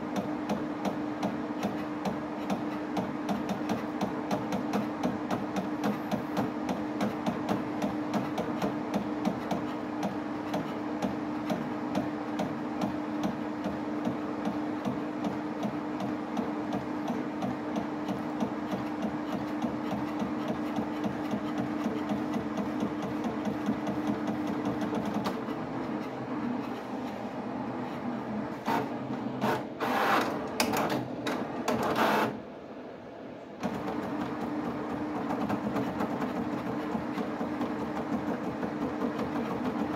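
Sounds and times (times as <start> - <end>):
plotter motors humming: 0.0 - 39.9.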